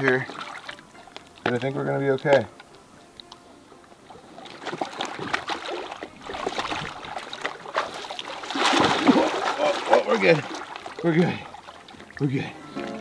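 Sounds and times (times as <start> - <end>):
small splashes and drips: 0.0 - 2.4, 4.0 - 12.5
water sloshing and splashing: 0.0 - 2.5, 3.8 - 13.0.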